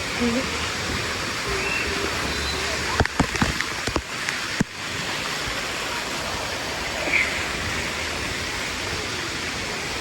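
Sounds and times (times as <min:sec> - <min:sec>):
water rushing and splashing: 0:00.0 - 0:10.0.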